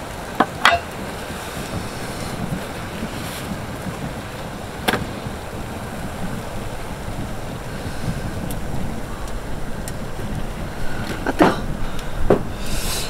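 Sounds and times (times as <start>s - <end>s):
wind rushing around tent: 0.0s - 13.0s.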